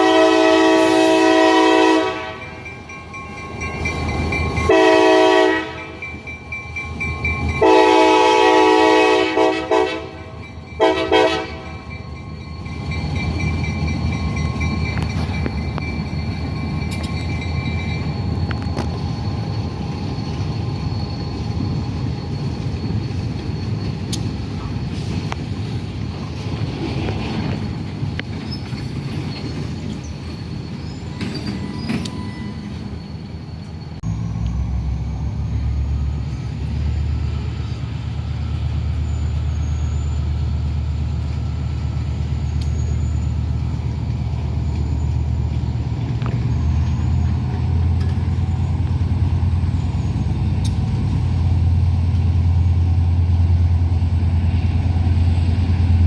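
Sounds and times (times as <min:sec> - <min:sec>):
freight train rumbling on rails: 0:00.0 - 0:56.0
wheel squeal: 0:10.3 - 0:56.0.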